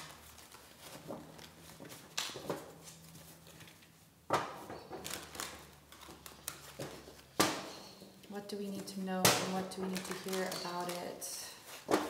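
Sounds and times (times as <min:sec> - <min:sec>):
cards shuffling: 0:00.0 - 0:12.0.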